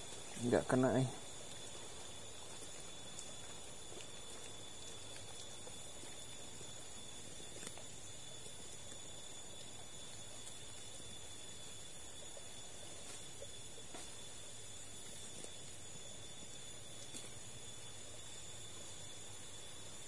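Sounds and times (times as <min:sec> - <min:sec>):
faint ticks: 0:00.0 - 0:20.0
steady hiss: 0:00.0 - 0:20.0
thin high-pitched whine: 0:00.0 - 0:20.0.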